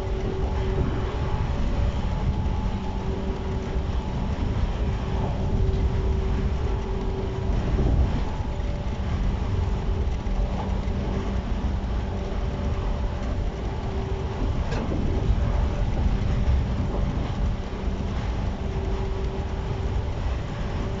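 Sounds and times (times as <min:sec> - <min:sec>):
electric train humming: 0:00.0 - 0:21.0.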